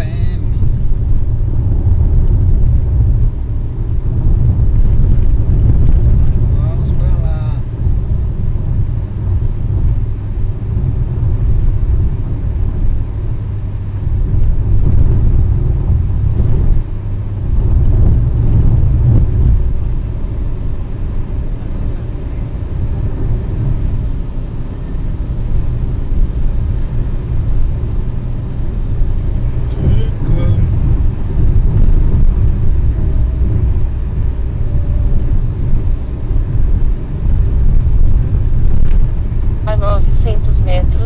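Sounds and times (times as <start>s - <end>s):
car engine from inside: 0.0s - 41.0s
tyres rumbling on asphalt: 0.0s - 41.0s.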